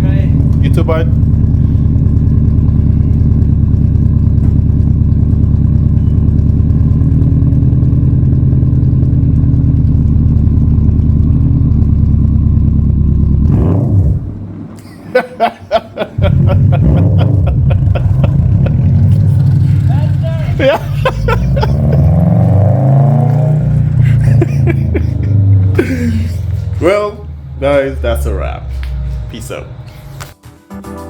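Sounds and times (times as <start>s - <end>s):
car engine idling: 0.0s - 30.4s.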